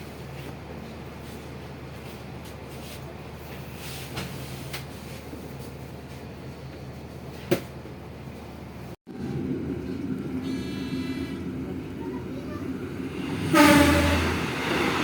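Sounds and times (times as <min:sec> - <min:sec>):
train carriage rumble and hum: 0:00.0 - 0:15.0.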